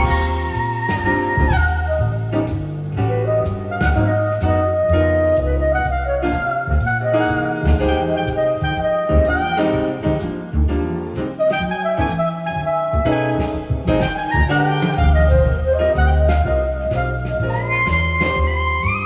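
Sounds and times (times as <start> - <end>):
jazz instrumental music: 0.0 - 19.0.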